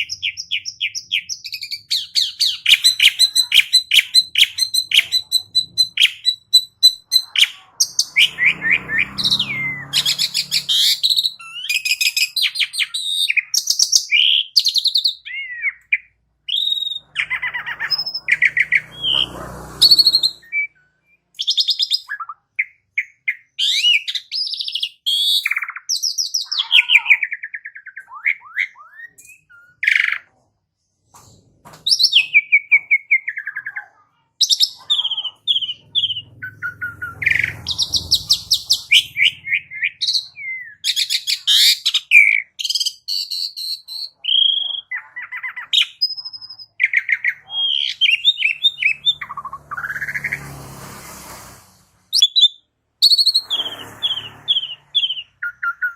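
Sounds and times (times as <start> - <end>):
starling singing: 0.0 - 30.3, 31.9 - 50.6, 52.1 - 55.9.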